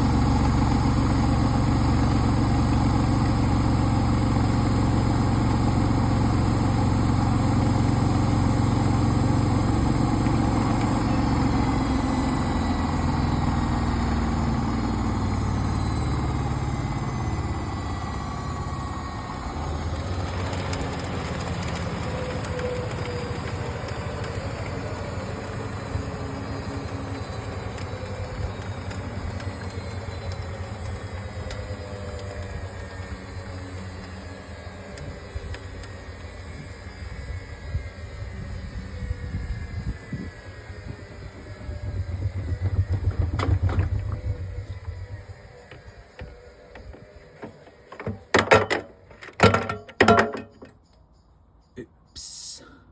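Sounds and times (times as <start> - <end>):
washing machine spinning: 0.0 - 39.4, 40.0 - 50.6.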